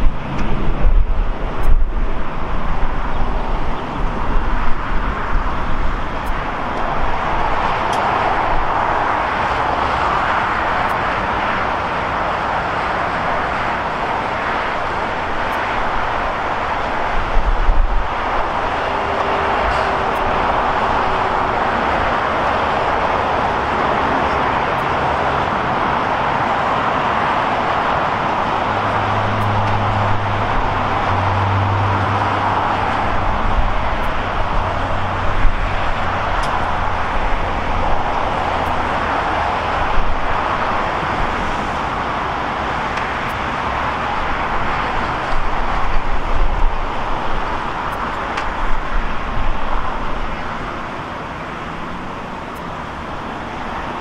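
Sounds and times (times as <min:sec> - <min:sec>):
jet aircraft roar: 0:00.0 - 0:54.0
passing road traffic: 0:00.0 - 0:54.0.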